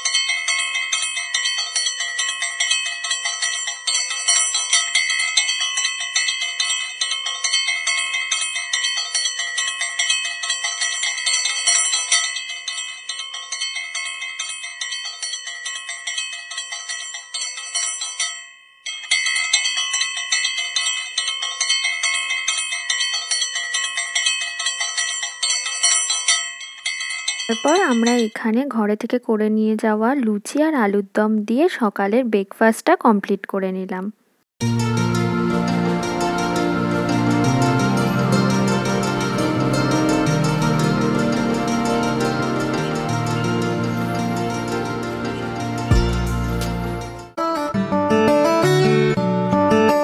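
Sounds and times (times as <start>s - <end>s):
bell ringing rapidly: 0.0s - 28.4s, 34.6s - 47.4s.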